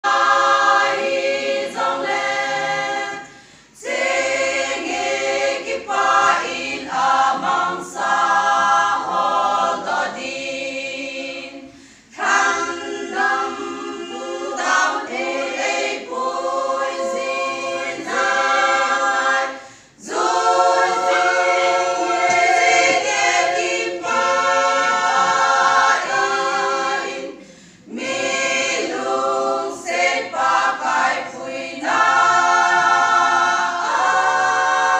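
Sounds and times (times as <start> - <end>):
women's choir singing a cappella: 0.0 - 34.9.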